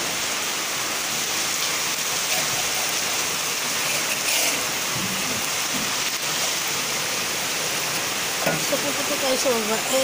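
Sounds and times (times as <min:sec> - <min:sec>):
floodwater rushing: 0:00.0 - 0:10.0
heavy rain pouring: 0:00.0 - 0:10.0.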